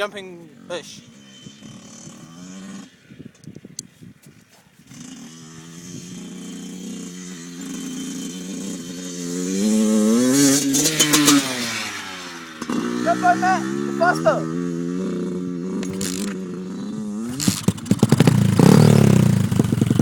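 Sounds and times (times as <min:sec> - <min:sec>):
dirt bike engine accelerating: 0:00.0 - 0:03.7, 0:04.8 - 0:20.0.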